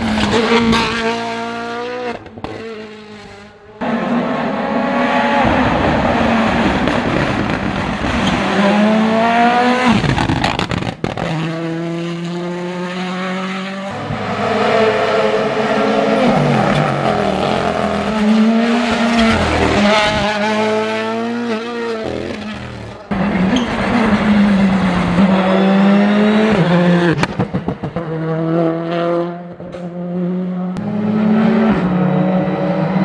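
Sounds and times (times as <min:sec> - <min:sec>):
rally car engine revving hard: 0:00.0 - 0:33.0.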